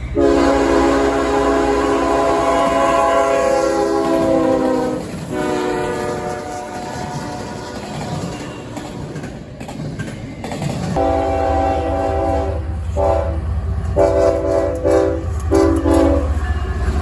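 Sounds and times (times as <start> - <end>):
train rumble: 0.0 - 17.0
locomotive air horn blasts: 0.2 - 8.3, 11.0 - 16.8.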